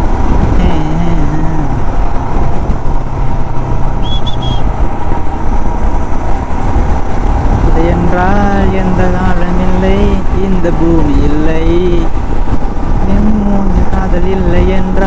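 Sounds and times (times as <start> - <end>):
motorcycle engine running: 0.0 - 15.0
rumbling wind and road noise: 0.0 - 15.0.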